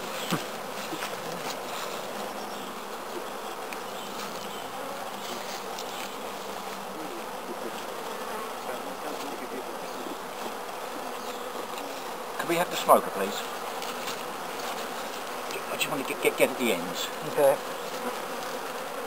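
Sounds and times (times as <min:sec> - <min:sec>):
faint ticks of hive frames: 0:00.0 - 0:16.5, 0:17.1 - 0:19.0
honeybees buzzing: 0:00.0 - 0:19.0.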